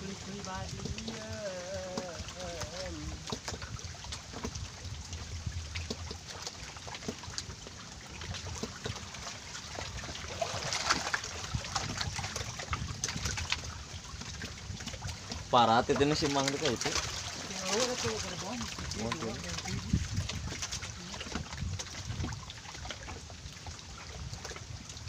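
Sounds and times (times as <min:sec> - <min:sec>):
wind buffeting microphone: 0:00.0 - 0:06.2, 0:09.9 - 0:25.0
water lapping against raft: 0:00.0 - 0:25.0.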